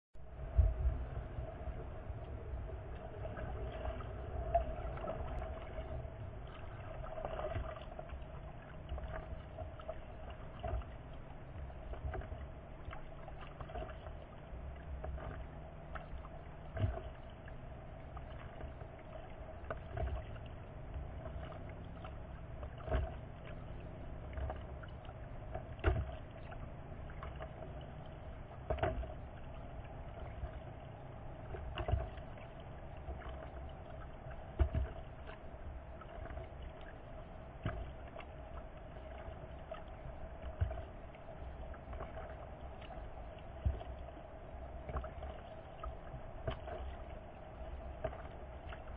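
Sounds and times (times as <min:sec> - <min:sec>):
low rumble: 0:00.2 - 0:48.9
steady hum: 0:00.2 - 0:48.9.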